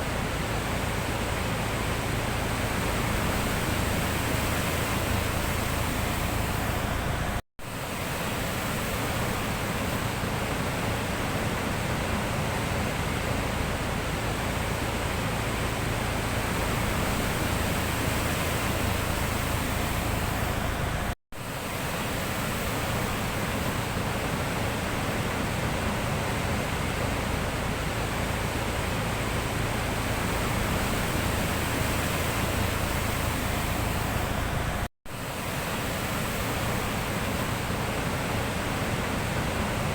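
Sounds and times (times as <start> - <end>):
sea surf washing: 0.0 - 39.9.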